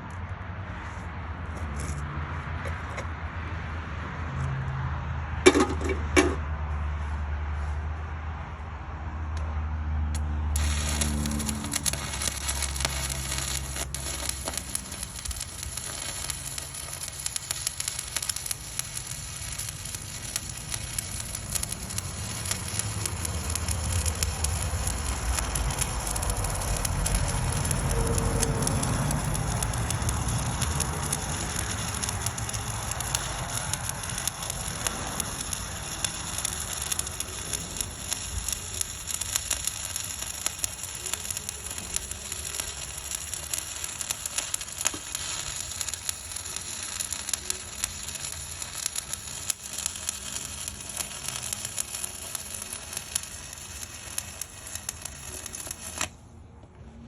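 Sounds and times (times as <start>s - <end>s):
welding arc crackling and sizzling: 10.2s - 56.2s.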